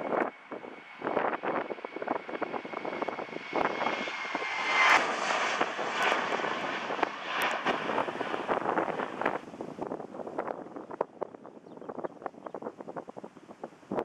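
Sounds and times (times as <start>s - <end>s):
high jet engine whine: 0.0s - 14.0s
jet engines at takeoff: 0.0s - 14.0s.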